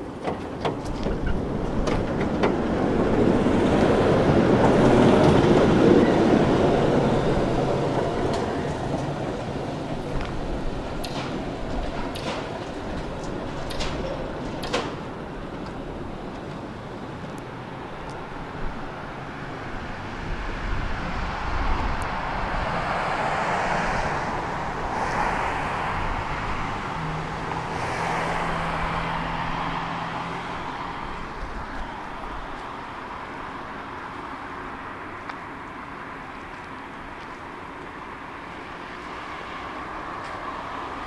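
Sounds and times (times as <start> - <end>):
tram rolling noise: 0.0 - 41.0.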